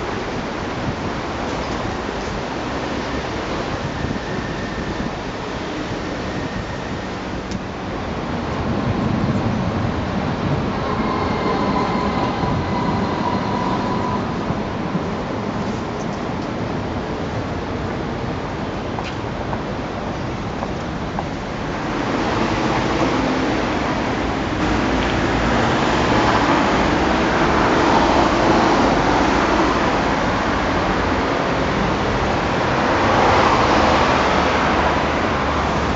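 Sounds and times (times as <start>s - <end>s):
dense rushing noise: 0.0s - 35.9s
train rumbling: 0.0s - 35.9s.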